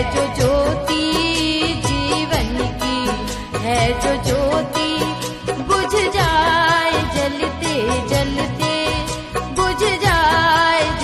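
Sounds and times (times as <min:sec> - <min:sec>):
devotional song with percussion: 0:00.0 - 0:11.0.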